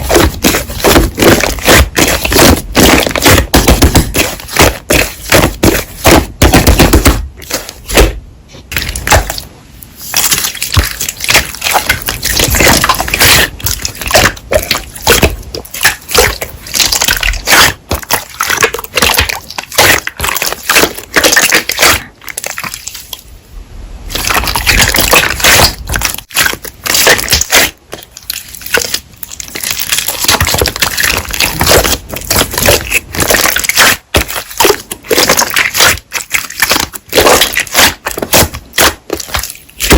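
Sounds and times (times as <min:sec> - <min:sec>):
slime squeezed wet crackling: 0:00.0 - 0:23.2, 0:24.1 - 0:39.9.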